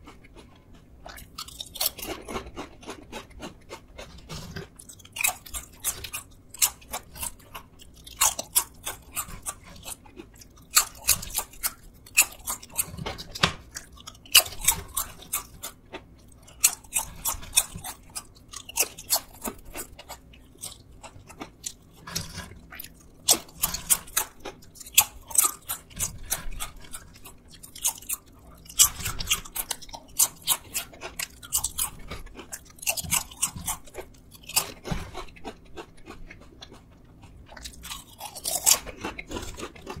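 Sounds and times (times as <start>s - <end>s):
potato chips crunching: 0.0s - 40.0s.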